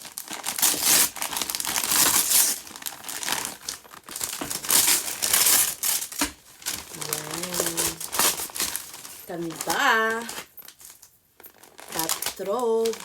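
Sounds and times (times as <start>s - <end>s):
gift wrapping crinkling and tearing: 0.0s - 13.0s.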